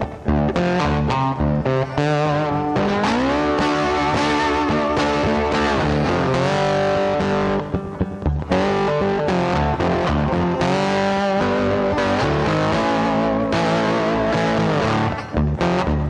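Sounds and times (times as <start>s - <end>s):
bass line: 0.0s - 16.0s
instrumental guitar music: 0.0s - 16.0s.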